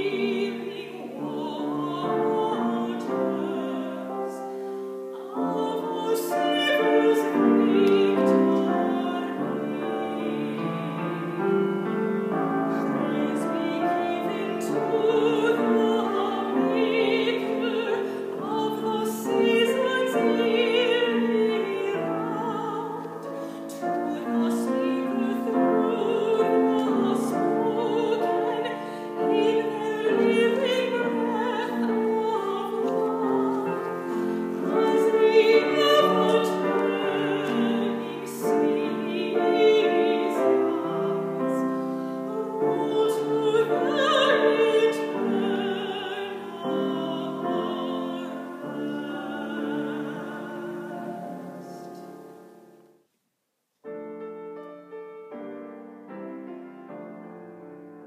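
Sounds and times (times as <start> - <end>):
woman singing operatically: 0.0 - 4.4, 5.1 - 10.8, 12.6 - 41.7, 42.3 - 51.8
grand piano: 0.0 - 53.1, 53.8 - 58.0.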